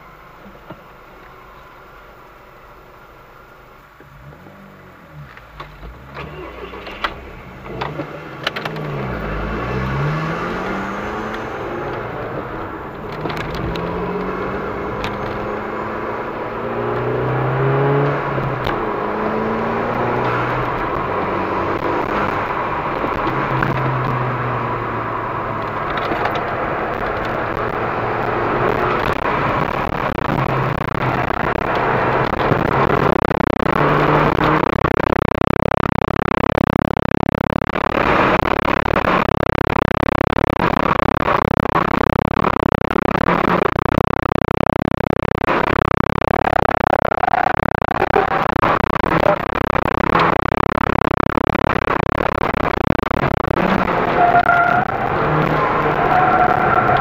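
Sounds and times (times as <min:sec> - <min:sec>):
car engine accelerating: 0:03.8 - 0:57.0.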